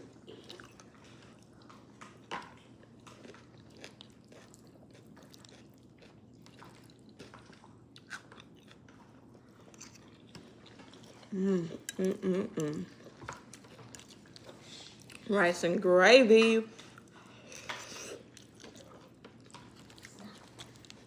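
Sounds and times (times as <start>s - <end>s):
person chewing food: 0.0s - 15.3s, 16.8s - 21.0s.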